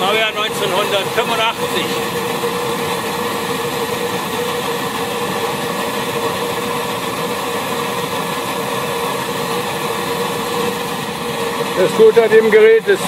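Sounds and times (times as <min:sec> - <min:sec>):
pressure burner rushing: 0:00.0 - 0:13.0.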